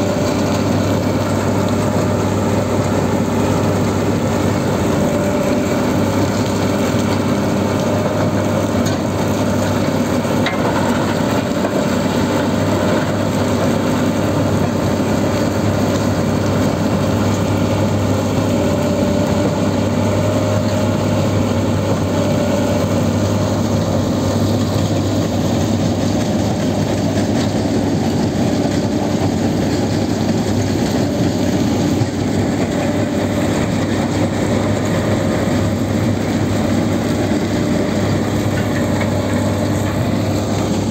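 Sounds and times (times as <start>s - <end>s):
grinding rattle of crushed rubble: 0.0s - 40.9s
loud engine hum: 0.0s - 40.9s.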